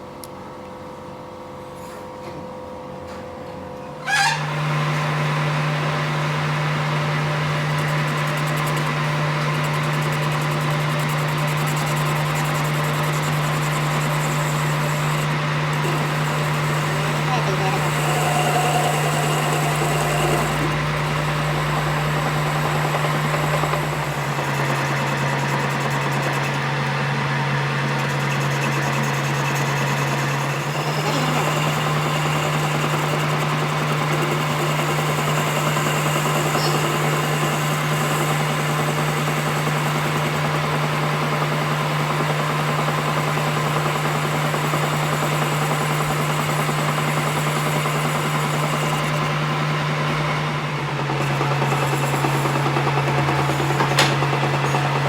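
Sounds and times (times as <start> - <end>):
workshop machine humming: 4.0 - 55.0.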